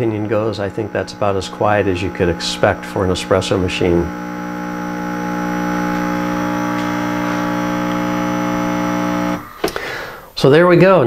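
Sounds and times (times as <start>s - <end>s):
espresso machine pump humming: 0.0s - 9.8s.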